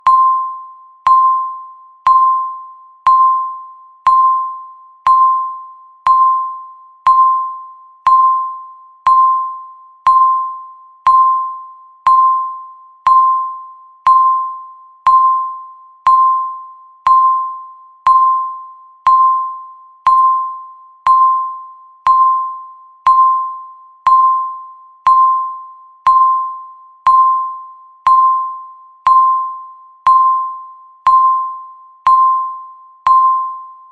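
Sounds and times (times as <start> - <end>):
timer beeps: 0.0 - 33.9.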